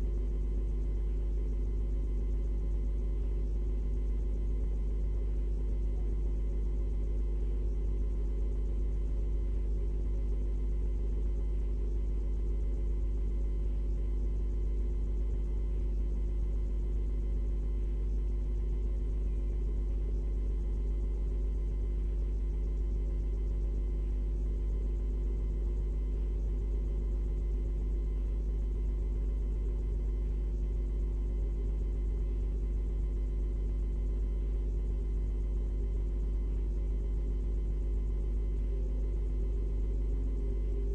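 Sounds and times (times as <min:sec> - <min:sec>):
electrical hum: 0:00.0 - 0:40.9.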